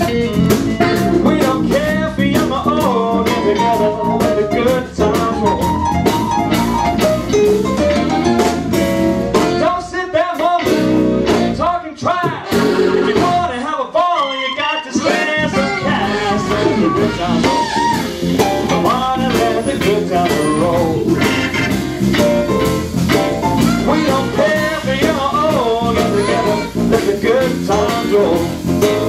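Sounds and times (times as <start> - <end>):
bending guitar lead line: 0.0 - 11.7, 12.3 - 13.5, 14.2 - 29.0
live blues band playing: 0.0 - 29.0.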